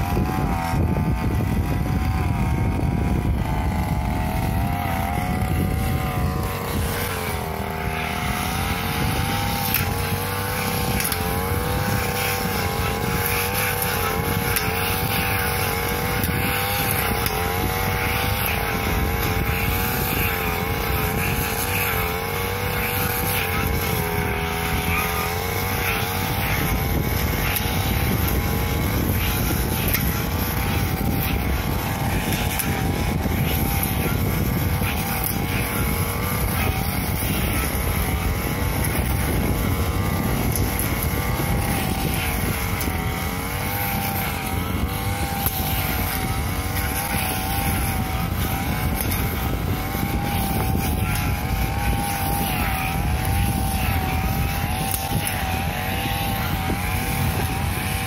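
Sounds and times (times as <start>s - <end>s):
brush cutter engine cutting grass: 0.0s - 58.0s.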